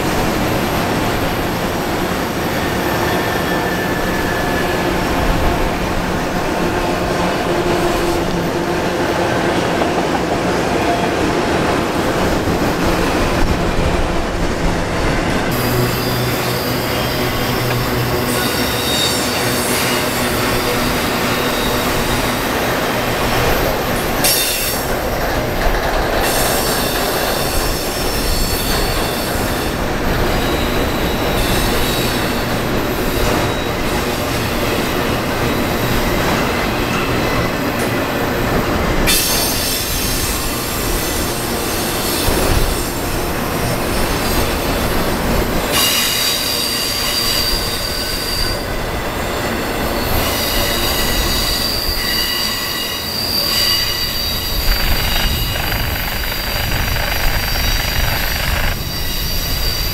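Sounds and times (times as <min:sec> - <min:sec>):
freight train wheels rumbling: 0:00.0 - 0:59.9
high wheel squeal: 0:00.4 - 0:05.7, 0:15.2 - 0:37.6, 0:39.1 - 0:59.9.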